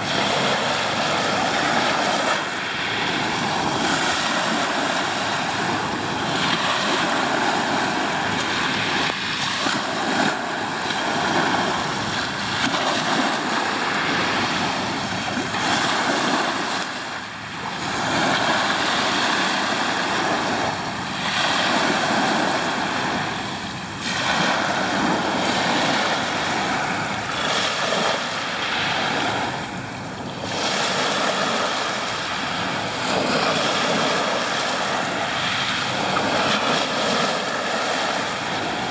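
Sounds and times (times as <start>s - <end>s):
sea waves washing on shore: 0.0s - 38.9s.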